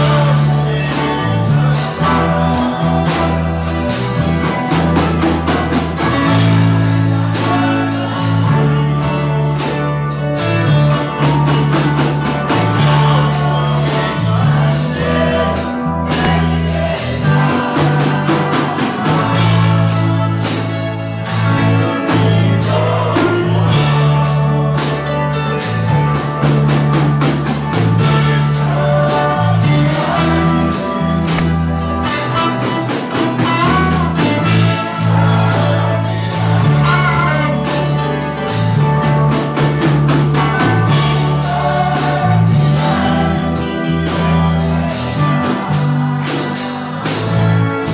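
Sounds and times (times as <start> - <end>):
band playing: 0.0 - 47.9
person singing: 0.0 - 47.9.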